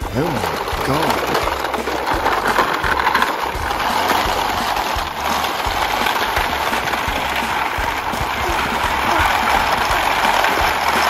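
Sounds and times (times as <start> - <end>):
toy car wheels rattling on dirt: 0.0 - 11.0.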